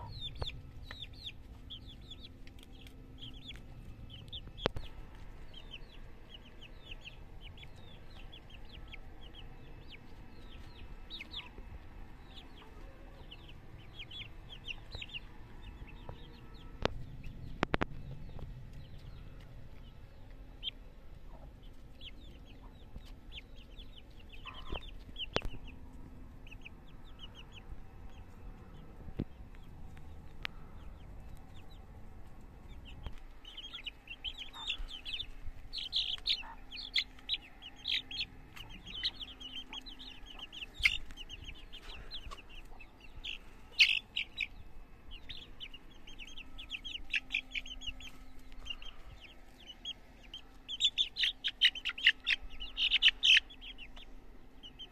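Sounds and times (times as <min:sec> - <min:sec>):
chicks peeping: 0:00.0 - 0:54.9.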